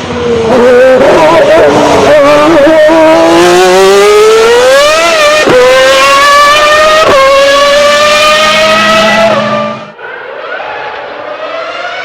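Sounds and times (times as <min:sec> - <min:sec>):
racing car engine accelerating: 0:00.0 - 0:12.0.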